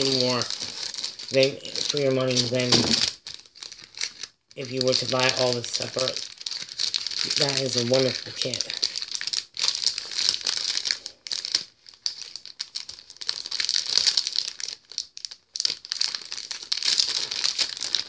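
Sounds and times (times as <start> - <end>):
crinkly packaging rustling: 0.0 - 18.0.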